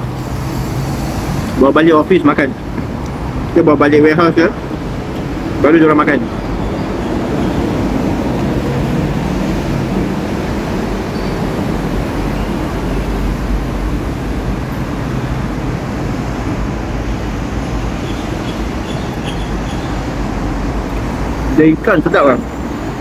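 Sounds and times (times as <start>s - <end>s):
road traffic rumble and hiss: 0.0s - 23.0s.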